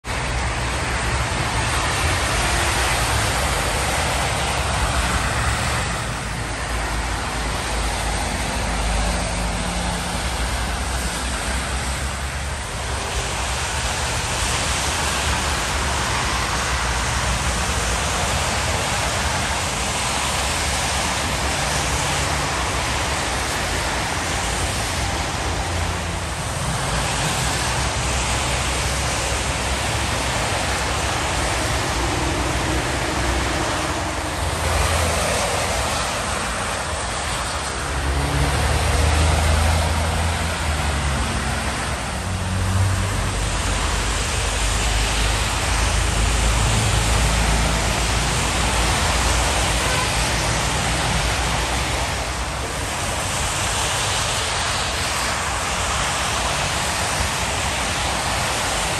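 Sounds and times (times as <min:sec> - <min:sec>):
rumble of passing vehicles: 0:00.0 - 0:58.9
tyres hissing on wet road: 0:00.0 - 0:58.9.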